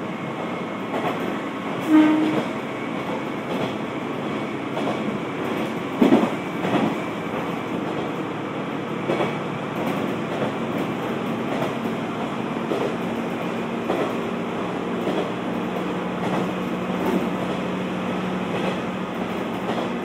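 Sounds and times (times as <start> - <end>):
railcar engine and wheels rumbling: 0.0 - 20.0.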